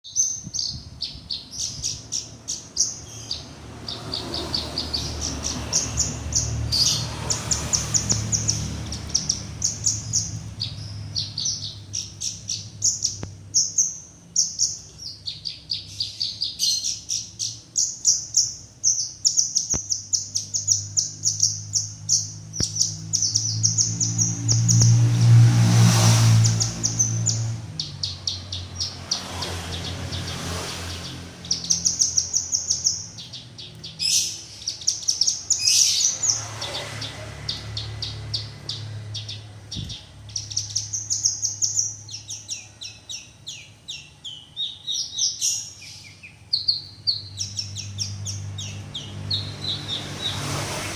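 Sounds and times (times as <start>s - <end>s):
bird singing chattering trills: 0.0s - 25.4s, 26.3s - 50.9s
low rumble of passing vehicle: 0.1s - 50.9s.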